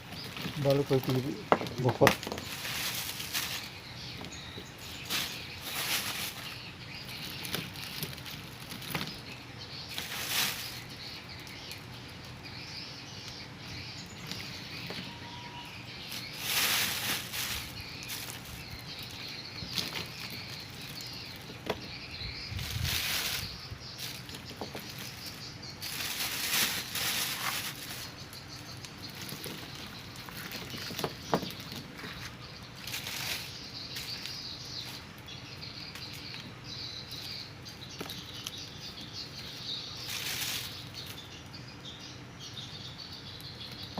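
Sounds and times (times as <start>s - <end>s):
rustling of dry nests: 0.0s - 43.9s.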